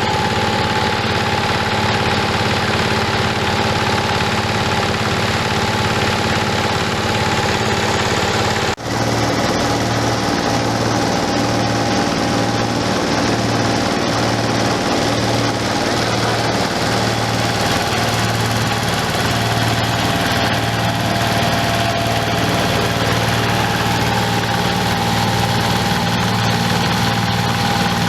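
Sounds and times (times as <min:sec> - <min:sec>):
grinding machine drone: 0:00.0 - 0:28.0.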